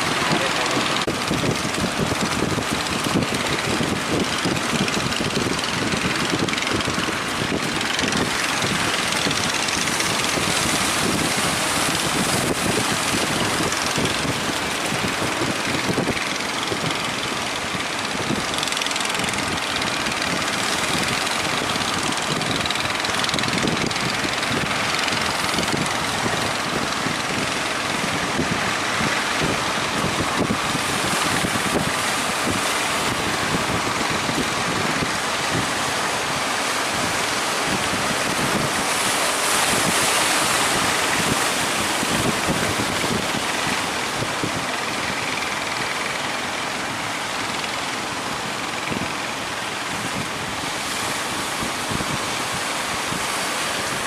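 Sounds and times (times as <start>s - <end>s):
boat engine running: 0.0s - 54.0s
surf: 0.0s - 54.0s
wind: 0.0s - 54.0s.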